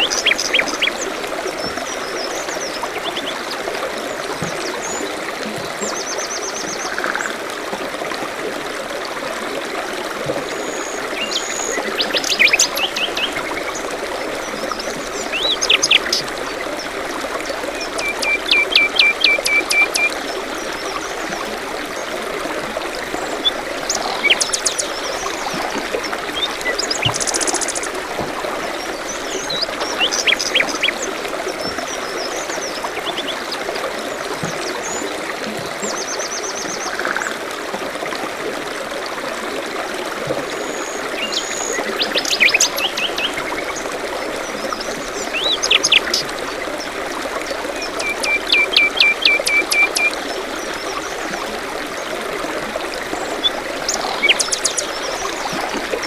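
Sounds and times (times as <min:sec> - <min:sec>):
forest stream running water: 0:00.0 - 0:56.0.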